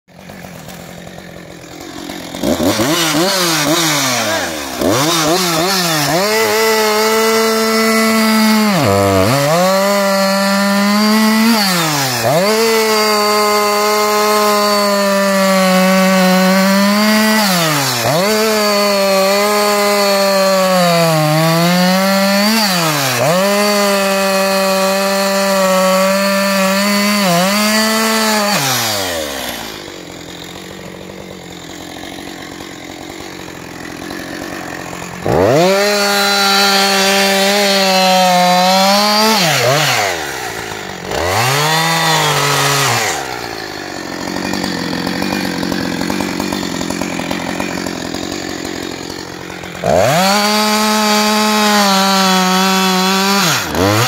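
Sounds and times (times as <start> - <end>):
chainsaw cutting through log: 0.1 - 54.0.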